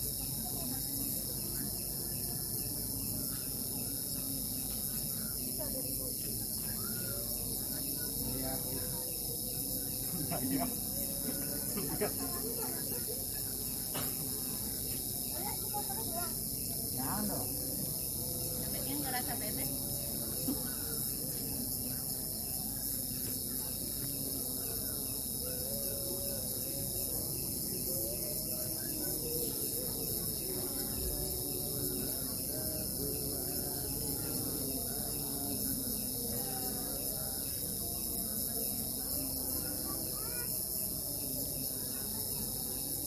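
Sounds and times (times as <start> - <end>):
crickets chirping: 0.0 - 43.0.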